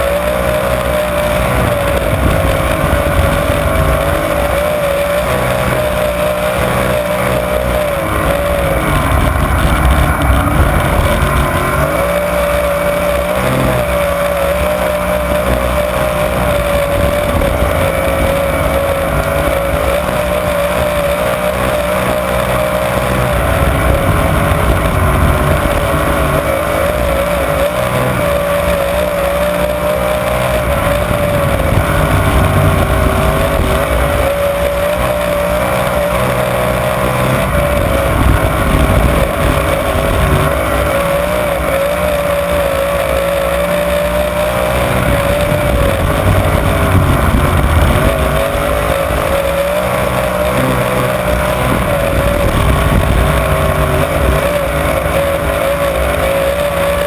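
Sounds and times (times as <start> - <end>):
racing car engine drone: 0.0 - 57.0.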